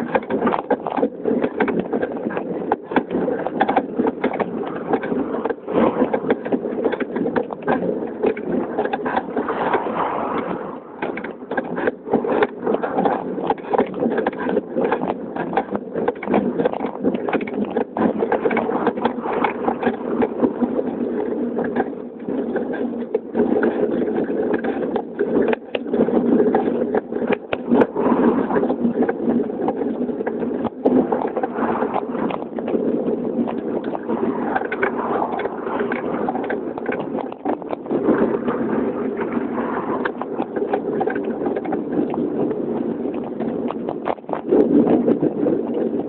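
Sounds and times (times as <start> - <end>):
bicycle rattling over bumps: 0.0 - 46.0
wind and tyres on tarmac: 0.0 - 46.0.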